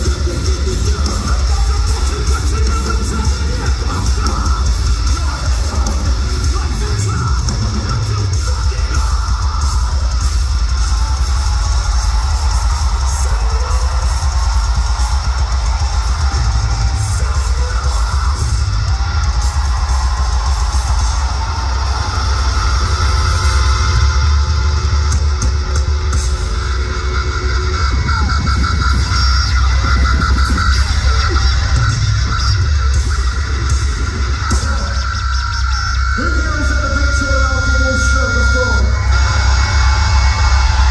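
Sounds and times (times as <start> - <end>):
metal band playing live: 0.0 - 40.9.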